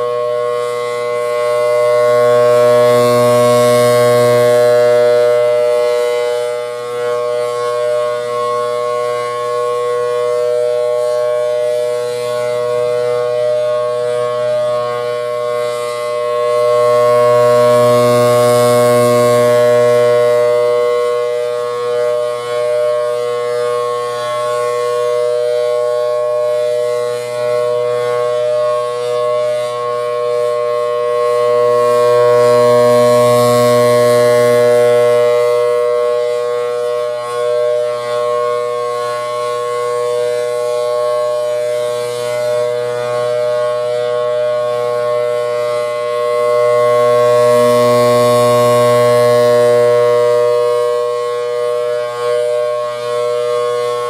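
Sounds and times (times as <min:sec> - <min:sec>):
two-note siren: 0:00.0 - 0:54.0.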